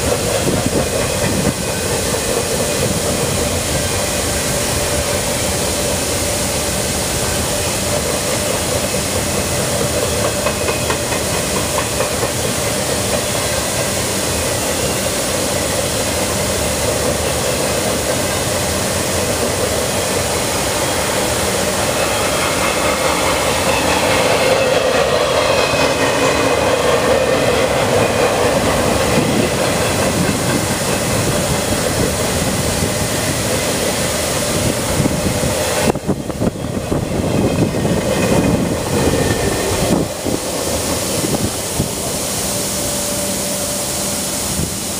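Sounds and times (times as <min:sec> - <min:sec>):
freight train wheels clacking: 0:00.0 - 0:44.9.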